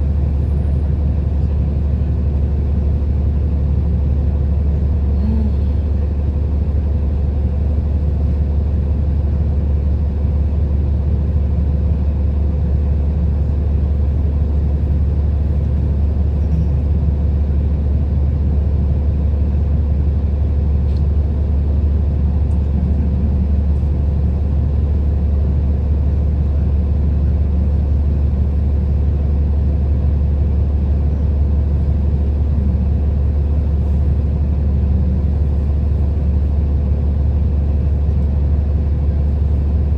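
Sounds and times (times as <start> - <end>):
bus engine and road rumble: 0.0 - 39.9
constant hum: 0.0 - 39.9.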